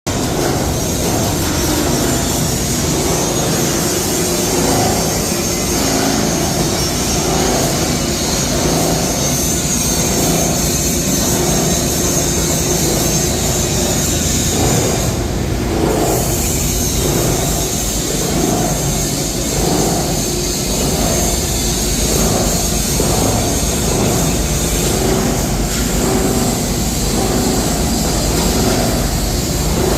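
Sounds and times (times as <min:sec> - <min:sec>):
machinery drone: 0:00.1 - 0:29.9.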